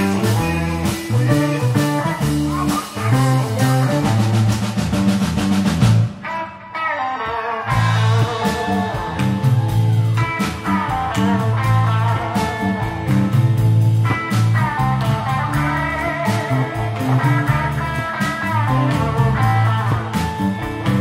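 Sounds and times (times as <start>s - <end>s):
electric blues band playing: 0.0s - 21.0s
electric guitar tones: 0.0s - 21.0s.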